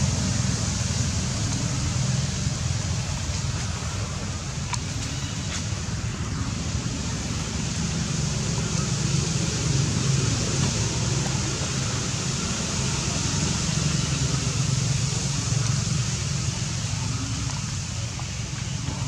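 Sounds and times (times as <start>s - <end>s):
even hiss: 0.0s - 19.0s.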